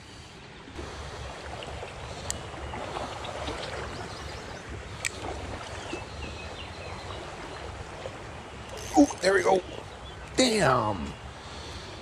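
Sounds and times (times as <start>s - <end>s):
creek water running: 0.7s - 12.0s.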